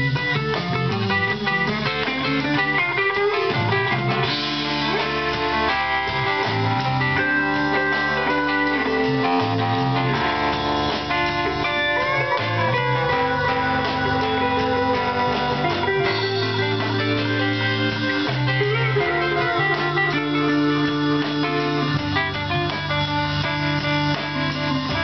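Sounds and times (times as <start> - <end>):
bass guitar: 0.0 - 25.0
electric guitar sliding notes: 0.0 - 25.0.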